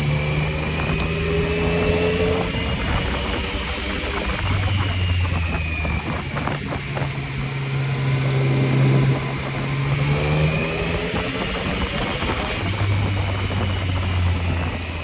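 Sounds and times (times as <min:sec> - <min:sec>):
motorcycle engine under way: 0:00.0 - 0:15.0
wind rush: 0:00.0 - 0:15.0.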